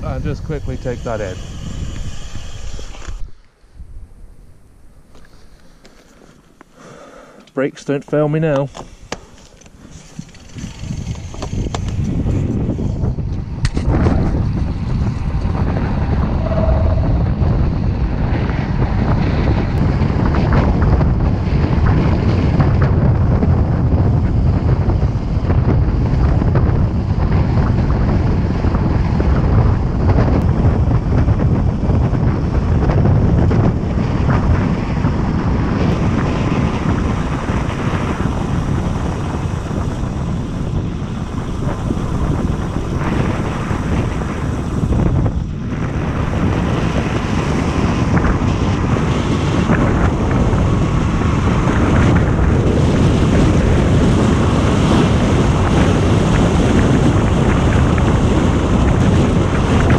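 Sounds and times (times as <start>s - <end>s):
wind buffeting microphone: 0.0s - 5.8s, 8.4s - 59.9s.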